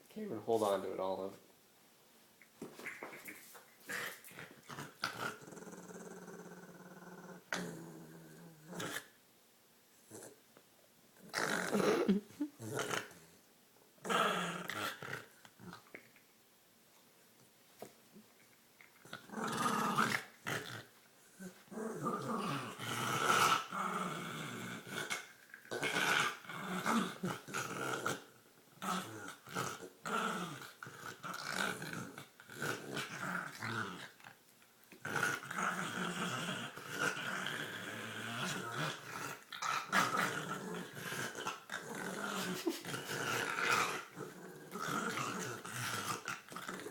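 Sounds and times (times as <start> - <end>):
dog growling and snorting: 2.8 - 9.1, 11.2 - 13.4, 14.0 - 15.9, 19.0 - 46.9.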